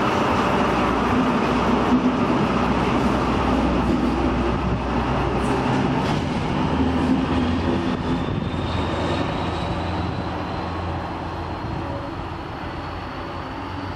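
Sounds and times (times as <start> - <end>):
diesel train engines running: 0.0 - 13.9.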